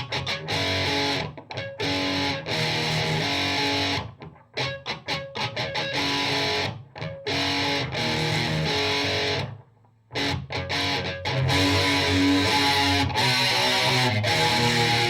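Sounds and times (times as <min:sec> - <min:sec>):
electric guitar chords and strums: 0:00.0 - 0:15.0.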